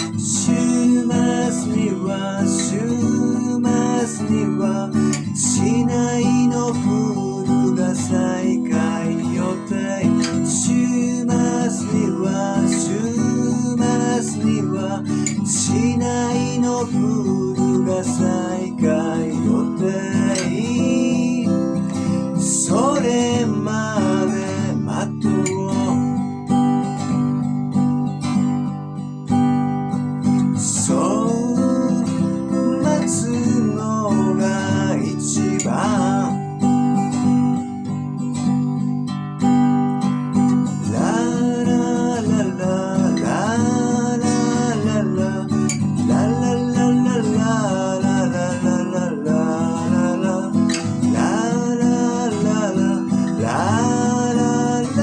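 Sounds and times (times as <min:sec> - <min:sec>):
strummed acoustic guitar: 0:00.0 - 0:55.0.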